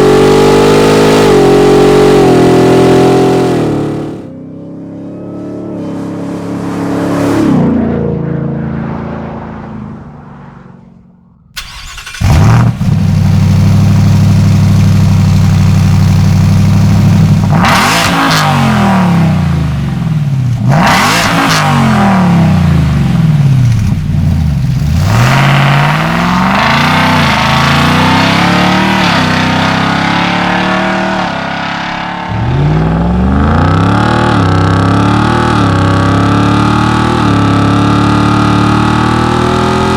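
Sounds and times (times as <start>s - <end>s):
truck engine revving: 0.0s - 4.3s, 5.3s - 39.9s.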